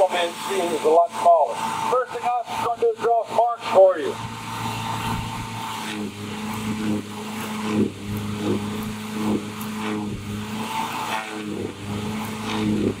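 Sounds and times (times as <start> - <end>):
electric arc buzzing and cracking: 0.0 - 13.0
steady electrical hum: 0.0 - 13.0.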